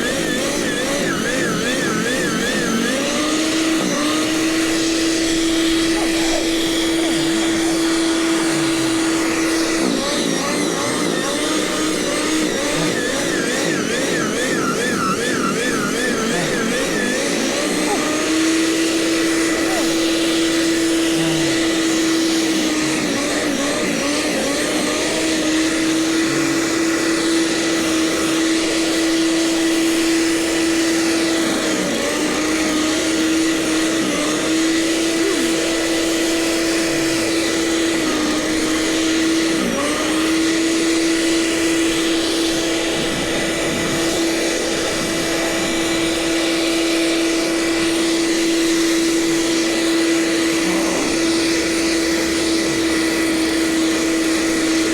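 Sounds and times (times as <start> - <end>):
snowblower engine running: 0.0 - 54.9.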